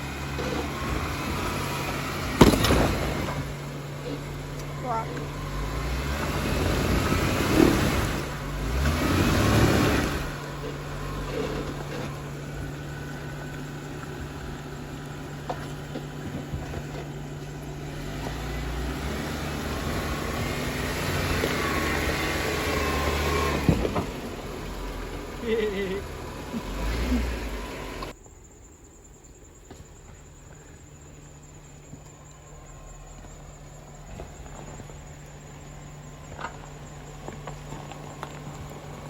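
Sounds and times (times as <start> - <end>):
off-road vehicle engine revving: 0.0 - 28.2, 31.3 - 39.0.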